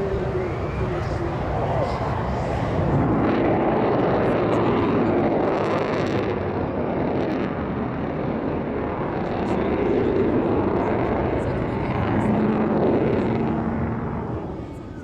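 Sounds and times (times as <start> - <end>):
jet engines deep rumbling roar: 0.0 - 15.0.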